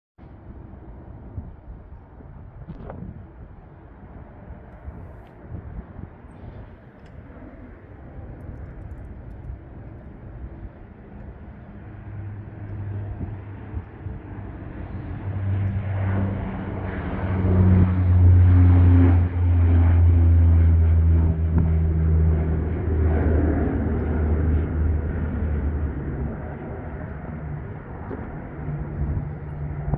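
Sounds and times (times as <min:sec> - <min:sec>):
turboprop engines droning: 0:00.2 - 0:29.9.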